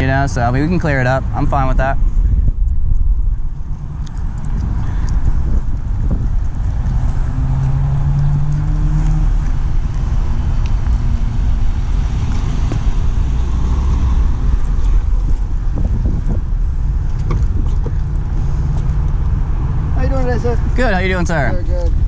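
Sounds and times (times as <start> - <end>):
vehicle engine running: 0.0 - 22.0
wind on microphone: 0.0 - 22.0
hum: 1.2 - 20.8.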